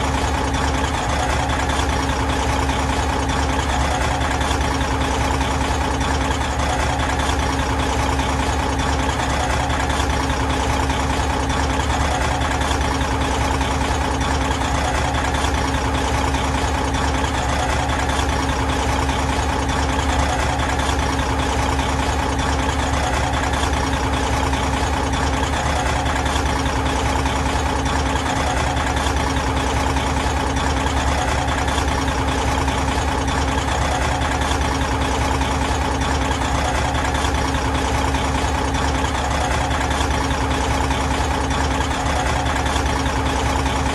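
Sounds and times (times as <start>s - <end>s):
truck diesel engine idling: 0.0s - 43.9s.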